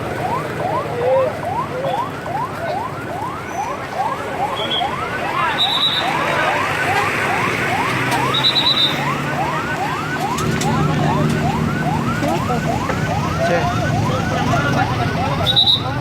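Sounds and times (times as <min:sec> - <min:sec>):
siren yelping: 0:00.0 - 0:16.0.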